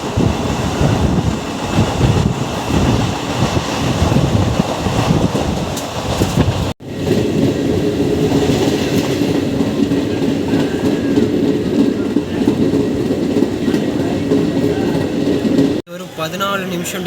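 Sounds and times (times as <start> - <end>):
electric train on track: 0.0 - 17.0.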